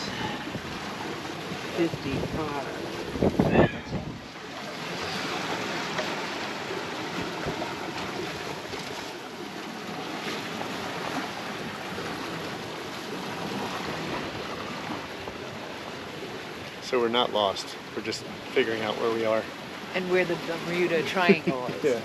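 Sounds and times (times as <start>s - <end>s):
sea rushing around boat: 0.0s - 22.0s.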